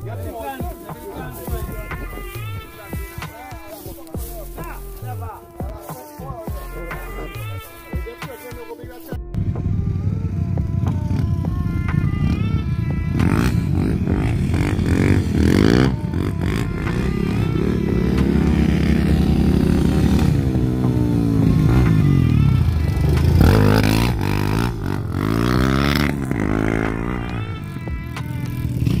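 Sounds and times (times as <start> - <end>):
atv engines revving: 0.0 - 29.0
music playing: 0.0 - 29.0.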